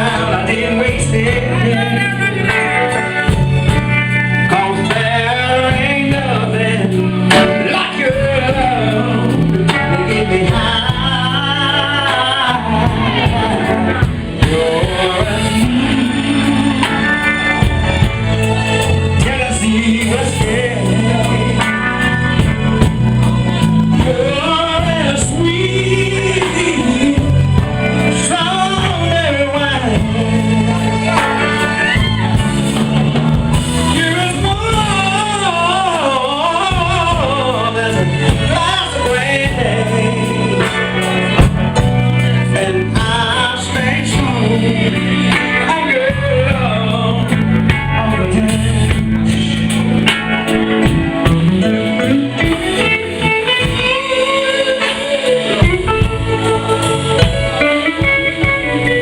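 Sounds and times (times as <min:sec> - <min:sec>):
live band playing ballad: 0:00.0 - 0:59.0.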